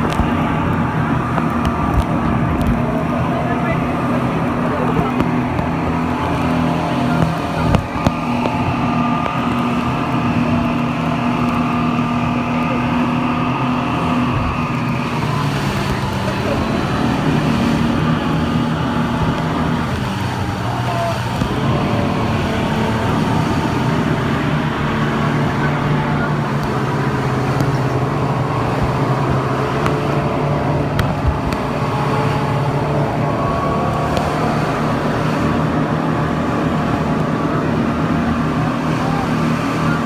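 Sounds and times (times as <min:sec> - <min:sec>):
speedboat engines droning: 0:00.0 - 0:40.0
water and wind rushing: 0:00.0 - 0:40.0.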